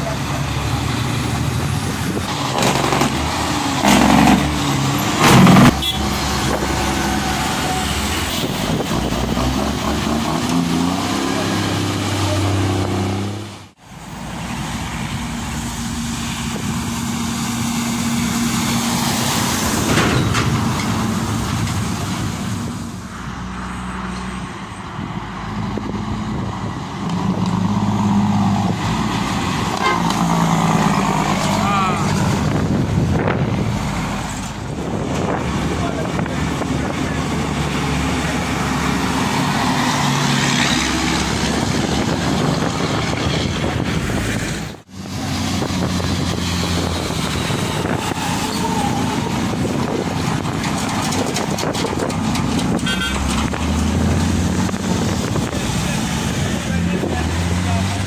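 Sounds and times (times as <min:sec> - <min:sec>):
diesel trucks driving past: 0:00.0 - 0:58.0.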